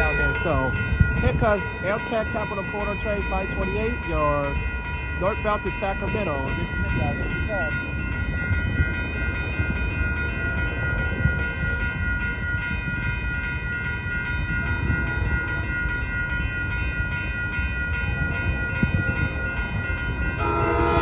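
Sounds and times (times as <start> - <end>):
crossing warning bells ringing: 0.0 - 21.0.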